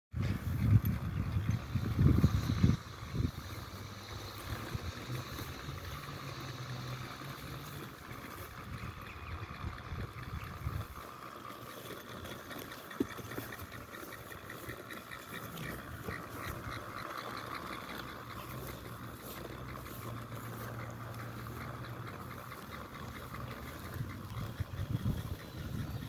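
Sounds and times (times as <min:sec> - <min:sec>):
robotic lawn mower grinding: 0:00.1 - 0:26.0.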